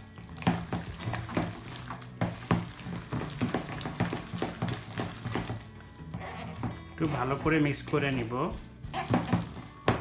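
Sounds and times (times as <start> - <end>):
hand squelching wet meat mixture: 0.0 - 10.0.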